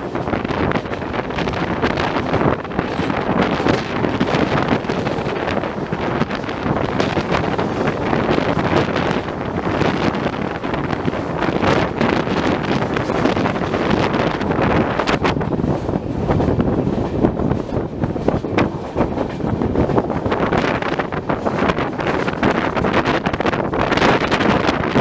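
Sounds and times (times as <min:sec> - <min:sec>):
train running noise: 0:00.0 - 0:25.0
wind buffeting microphone: 0:00.0 - 0:25.0.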